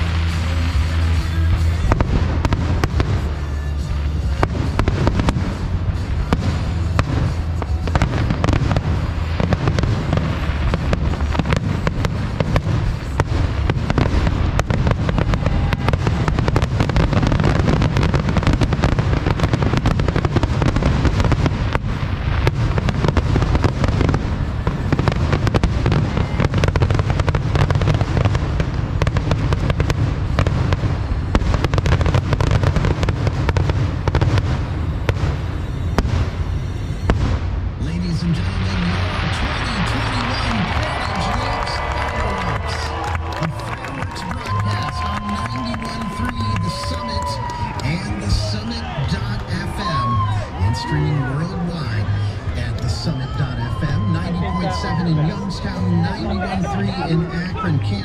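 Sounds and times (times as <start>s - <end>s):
deep rumble: 0.0s - 58.0s
fireworks bangs and crackles: 0.0s - 58.0s.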